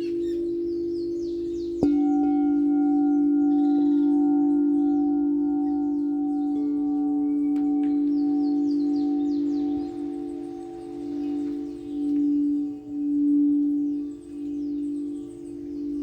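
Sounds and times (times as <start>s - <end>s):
higher bowl tone: 0.0s - 16.0s
singing bowl ringing: 0.0s - 16.0s.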